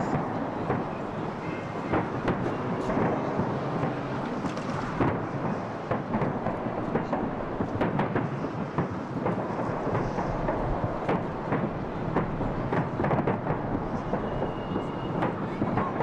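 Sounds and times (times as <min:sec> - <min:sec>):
continuous rumble: 0:00.0 - 0:16.0
fireworks bangs and crackles: 0:00.0 - 0:16.0.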